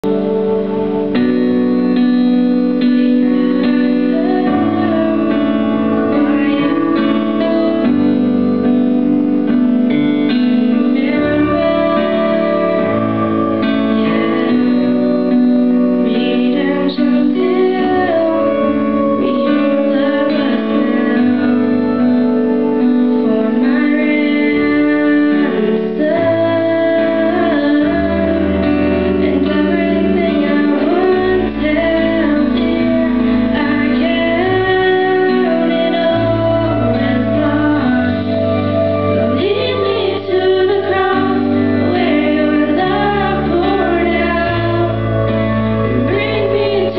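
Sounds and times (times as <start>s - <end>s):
instrumental accompaniment: 0.0s - 46.9s
girl singing into a microphone: 2.8s - 8.1s, 10.7s - 46.9s.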